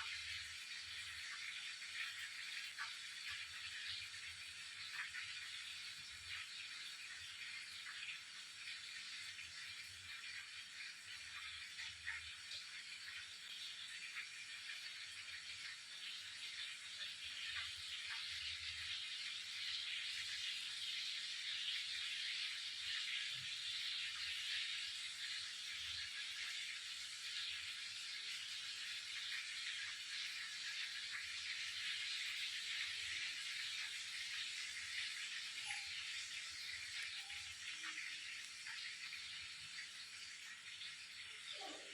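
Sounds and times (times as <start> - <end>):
meat sizzling in hot oil: 0.0 - 41.9.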